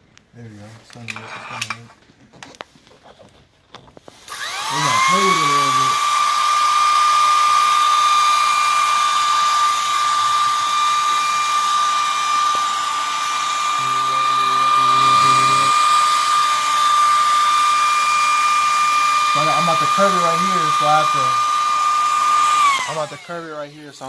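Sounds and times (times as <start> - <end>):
heat gun fan whine: 4.1 - 24.0.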